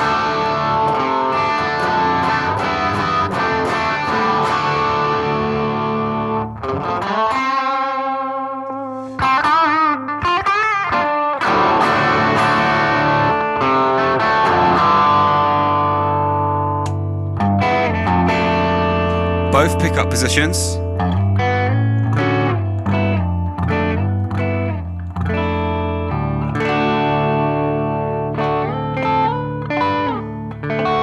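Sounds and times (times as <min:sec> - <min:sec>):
electric guitar lead with vibrato: 0:00.0 - 0:31.0
overdriven electric guitar chords: 0:00.0 - 0:31.0.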